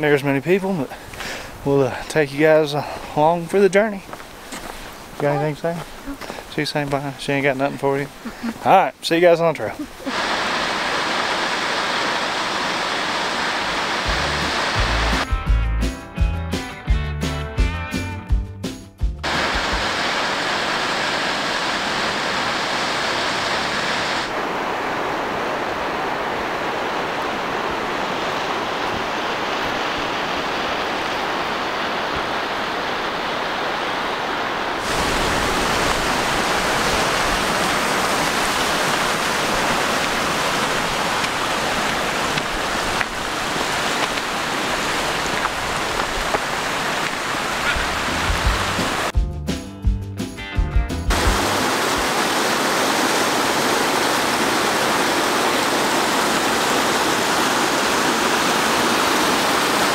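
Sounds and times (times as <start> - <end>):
waterfall roaring: 0.0 - 15.2, 19.2 - 49.1, 51.1 - 59.9.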